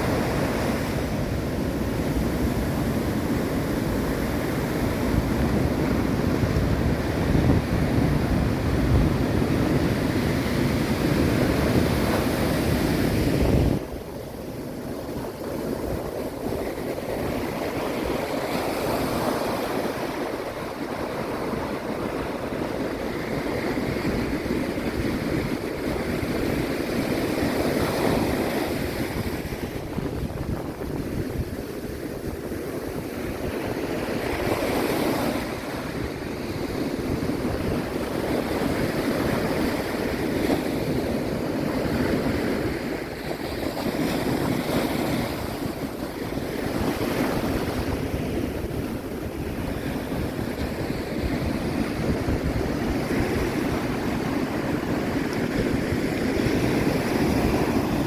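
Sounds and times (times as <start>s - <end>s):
ocean surf: 0.0s - 58.0s
wind: 0.0s - 58.0s.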